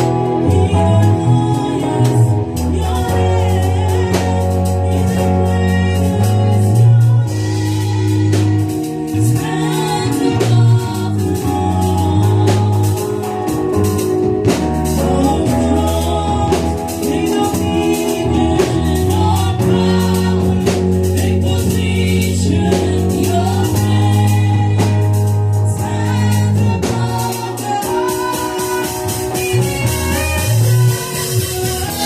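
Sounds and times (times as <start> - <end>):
gospel worship music with singing: 0.0 - 32.0.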